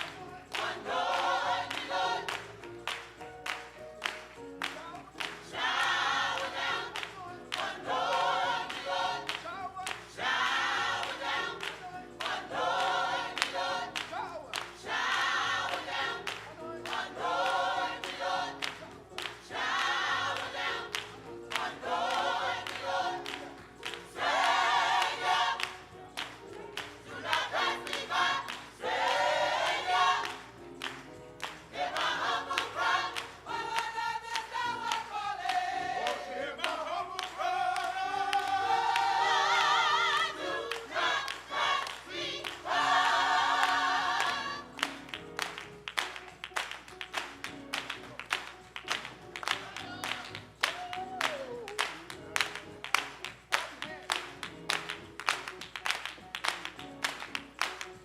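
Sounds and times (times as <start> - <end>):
gospel choir singing: 0.0 - 45.5, 49.1 - 54.4.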